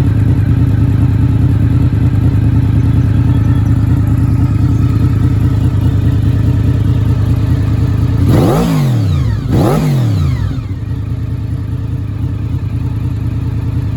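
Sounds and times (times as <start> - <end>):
motorcycle engine idling and revving: 0.0 - 13.9.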